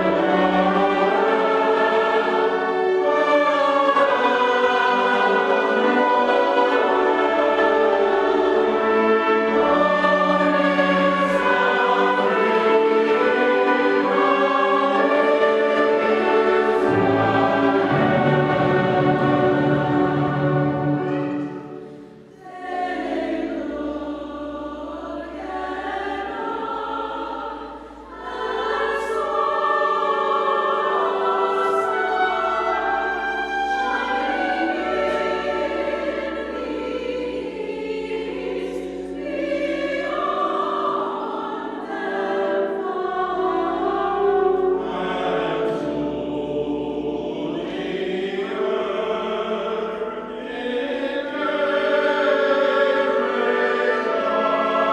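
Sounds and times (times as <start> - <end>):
choir singing sacred music: 0.0 - 54.9.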